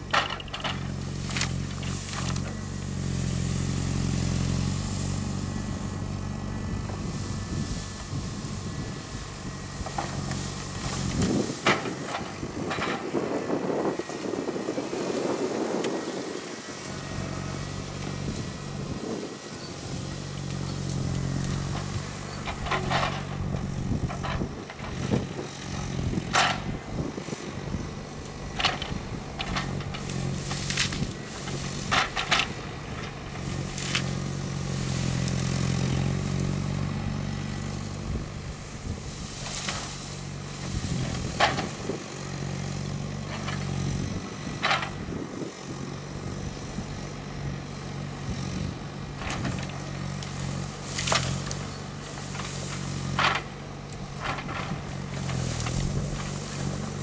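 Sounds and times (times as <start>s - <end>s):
branches cracking and snapping: 0.0s - 57.0s
diesel engine running: 0.0s - 57.0s.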